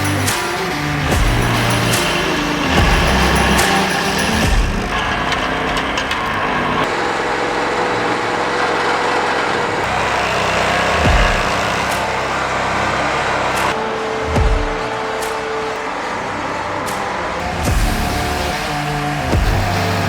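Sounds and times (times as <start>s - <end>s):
stump grinder grinding: 0.0s - 20.0s.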